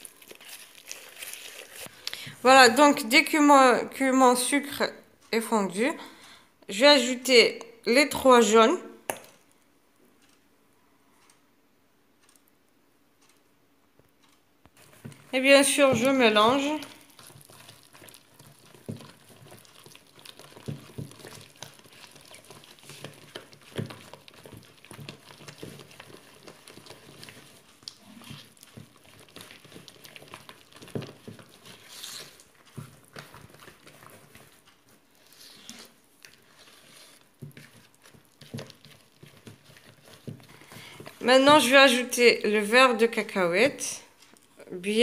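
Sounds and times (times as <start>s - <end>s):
hand mixing dough squelching: 0.0s - 9.6s, 14.6s - 45.0s.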